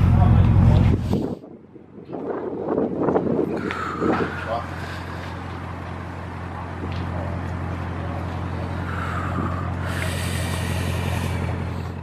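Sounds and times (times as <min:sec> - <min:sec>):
car engine idling: 0:00.0 - 0:01.4, 0:03.0 - 0:12.0.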